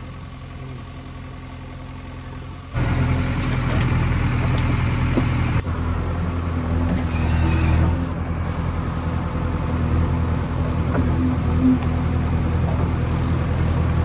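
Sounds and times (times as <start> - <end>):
heavy machinery diesel engine: 0.0 - 14.0.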